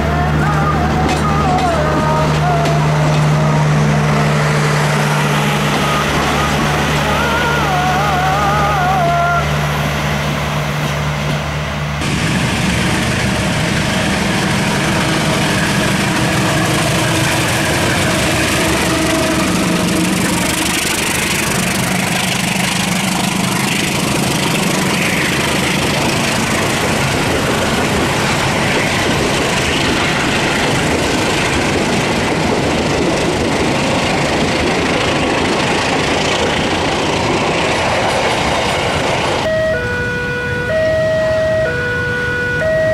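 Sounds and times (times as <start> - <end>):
diesel locomotive working hard: 0.0 - 42.9
train wheels clattering on rails: 0.4 - 7.3, 10.4 - 39.5.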